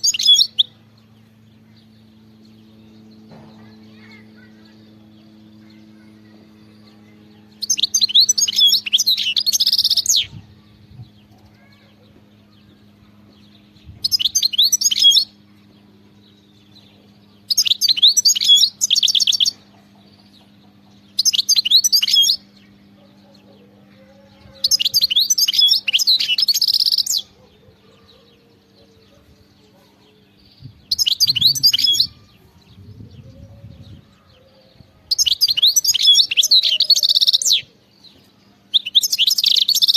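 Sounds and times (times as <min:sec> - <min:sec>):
bird high-pitched twittering: 0:00.0 - 0:39.9.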